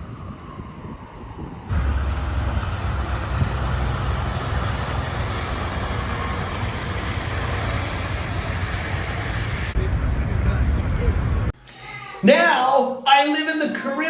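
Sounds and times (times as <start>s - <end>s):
street traffic rumble: 0.0s - 11.6s.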